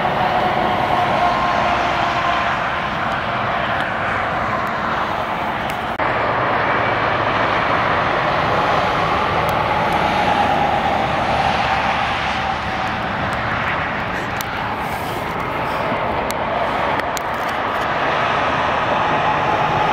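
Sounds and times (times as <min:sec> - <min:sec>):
truck diesel engine and tyres droning: 0:00.0 - 0:19.9.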